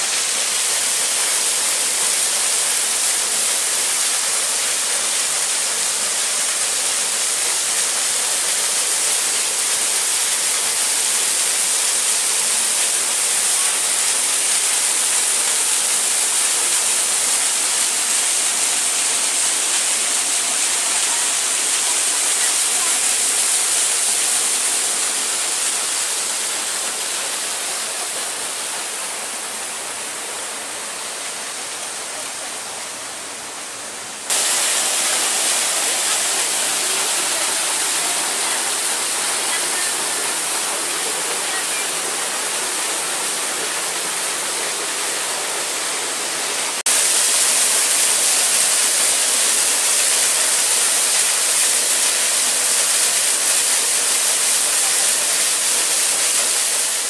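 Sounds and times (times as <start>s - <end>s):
waterfall splashing over rocks: 0.0s - 57.0s.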